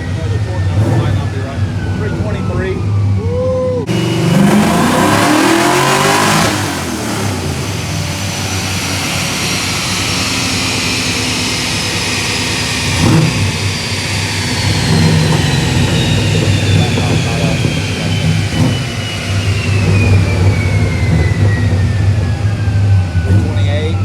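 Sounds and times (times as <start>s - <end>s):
car engine revving under load: 0.0s - 24.0s
dyno rollers winding down whine: 0.0s - 24.0s.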